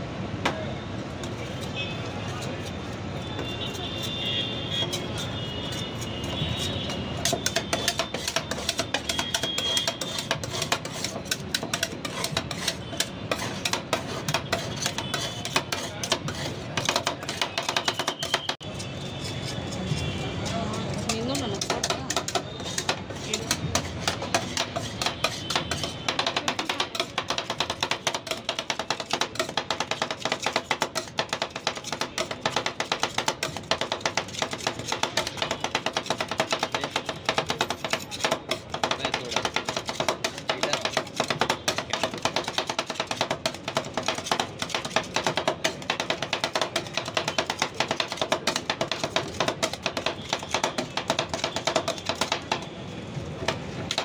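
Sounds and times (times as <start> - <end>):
metal spatulas chopping on steel plate: 2.3 - 52.7, 53.4 - 54.0.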